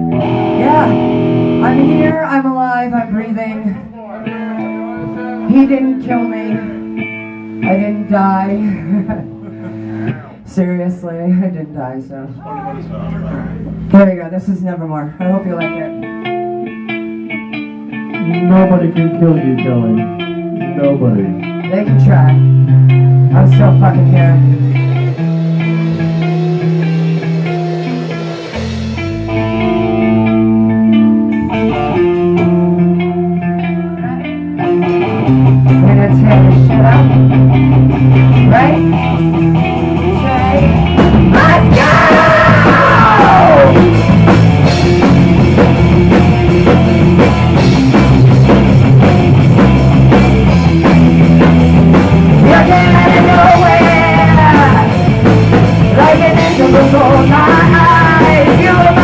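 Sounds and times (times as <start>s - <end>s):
drums: 0.0s - 59.0s
live rock band playing: 0.0s - 59.0s.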